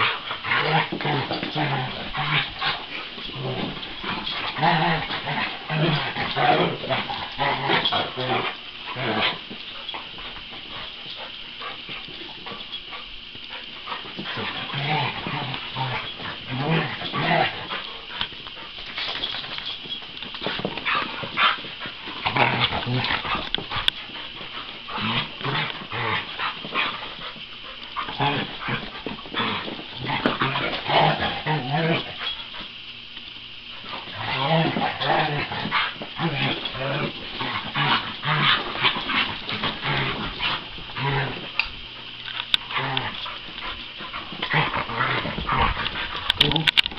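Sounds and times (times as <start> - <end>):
dogs scuffling: 0.0 - 46.9.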